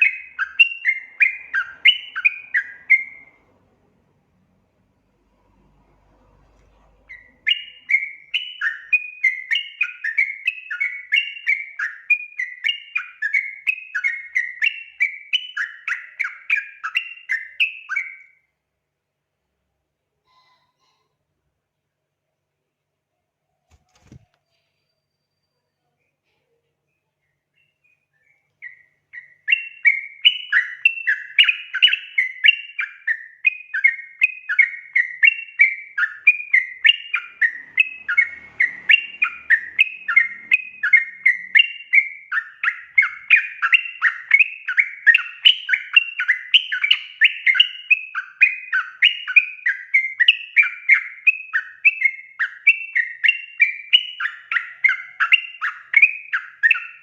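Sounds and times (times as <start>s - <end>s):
bird singing: 0.0s - 3.8s, 6.7s - 18.5s, 24.0s - 57.0s.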